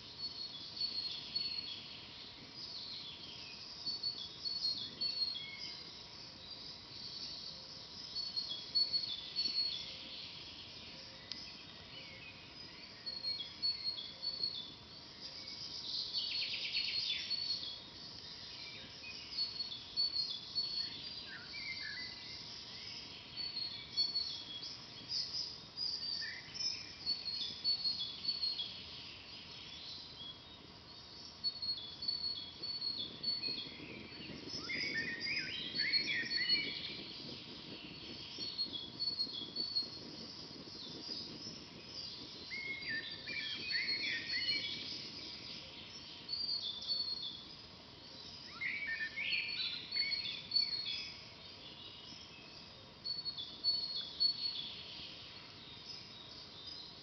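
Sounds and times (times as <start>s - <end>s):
songbirds chirping: 0.0s - 57.0s
warbled birdsong: 0.0s - 57.0s.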